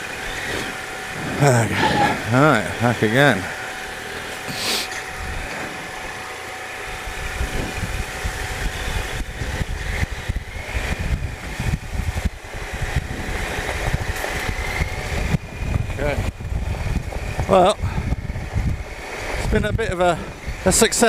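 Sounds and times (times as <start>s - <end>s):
wind rumbling on microphone: 0.0s - 3.2s, 5.0s - 21.0s
motorcycle engine running: 0.0s - 21.0s.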